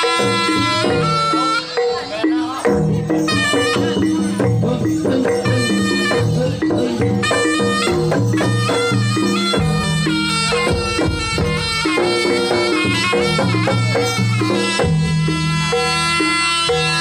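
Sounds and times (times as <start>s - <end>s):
drum strokes: 0.0s - 17.0s
reed shawm melody: 0.0s - 17.0s.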